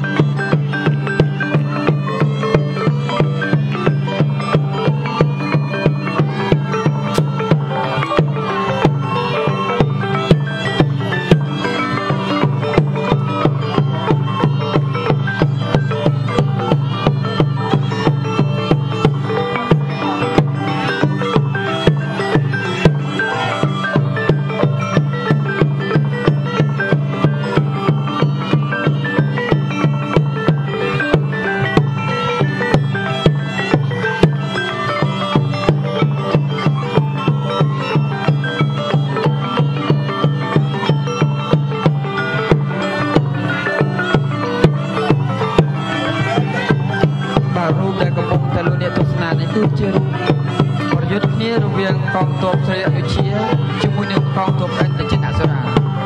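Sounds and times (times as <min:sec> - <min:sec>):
busy pitched melody: 0:00.0 - 0:56.0
drums and struck percussion: 0:00.0 - 0:56.0
reedy wind instrument: 0:00.0 - 0:56.0.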